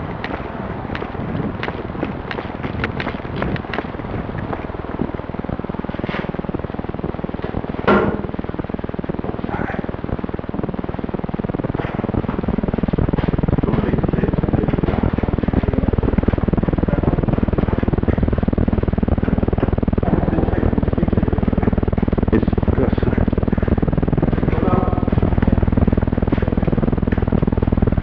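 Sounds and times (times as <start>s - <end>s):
low pulsing mechanical drone: 0.0s - 28.0s.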